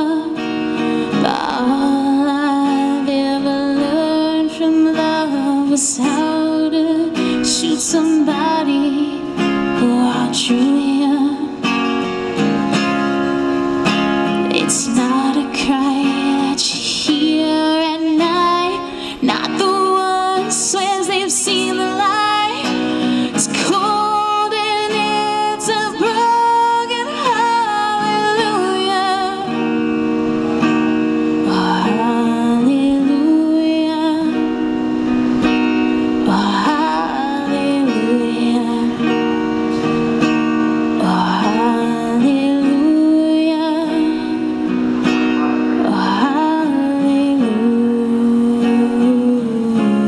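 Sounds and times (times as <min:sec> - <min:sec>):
acoustic guitar chords: 0:00.0 - 0:50.0
woman singing with vibrato: 0:00.0 - 0:50.0.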